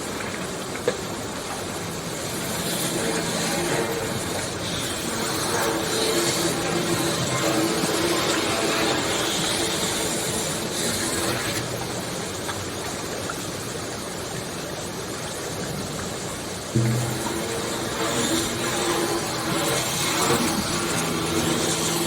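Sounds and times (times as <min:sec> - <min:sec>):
rushing water noise: 0:00.0 - 0:22.0.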